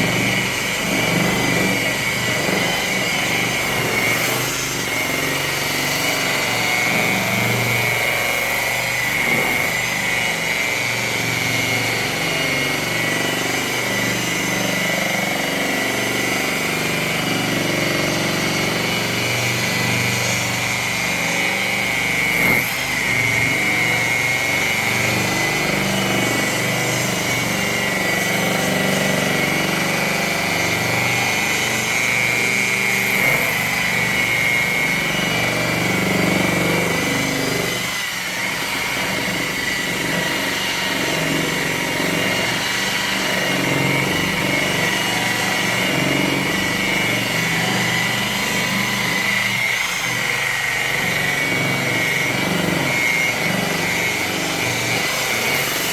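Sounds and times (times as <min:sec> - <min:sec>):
power buffer motor whining: 0:00.0 - 0:55.9.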